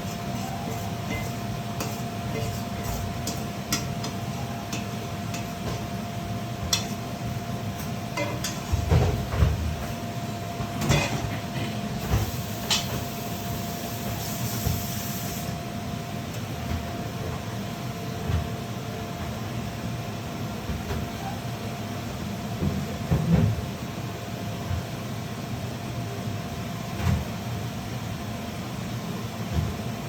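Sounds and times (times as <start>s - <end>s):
low kitchen hum: 0.0s - 30.0s.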